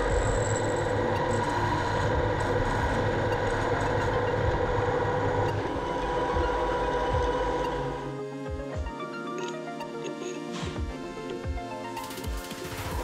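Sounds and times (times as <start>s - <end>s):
metal lathe hum and whine: 0.0s - 11.8s.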